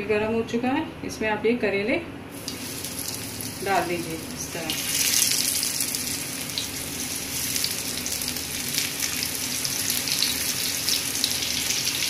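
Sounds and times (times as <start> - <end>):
vegetables frying in oil: 2.3 - 12.0.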